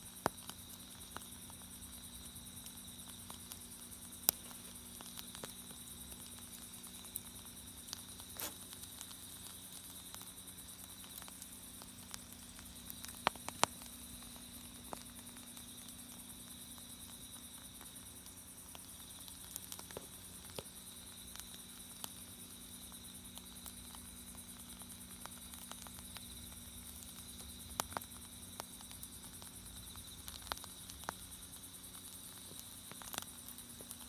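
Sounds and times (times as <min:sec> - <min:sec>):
crickets chirring: 0:00.0 - 0:34.0
wood fire crackling and popping: 0:00.0 - 0:34.0.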